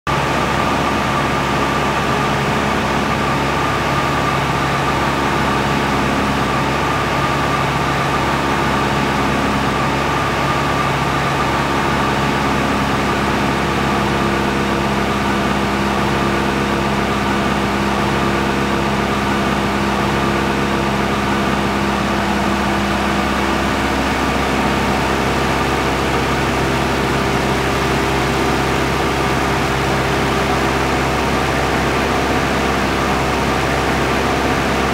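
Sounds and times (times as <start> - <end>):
aircraft engine running: 0.1 - 34.9.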